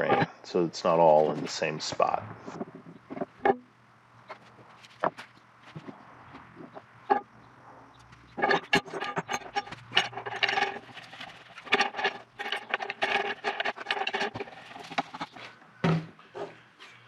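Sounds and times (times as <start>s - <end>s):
wooden slabs knocking and scraping: 1.1s - 7.3s, 8.0s - 16.6s.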